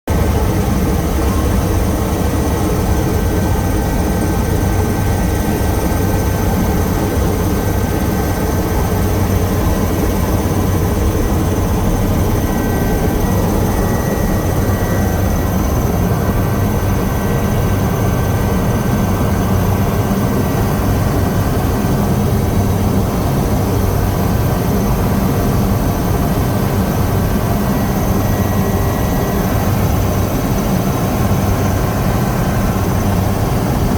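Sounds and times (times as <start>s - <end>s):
helicopter engine and rotor drone: 0.1s - 33.9s.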